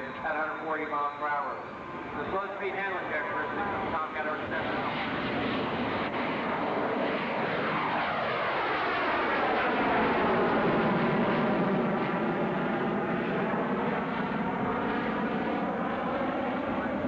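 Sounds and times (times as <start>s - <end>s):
jet fighter roaring past: 0.0s - 17.0s.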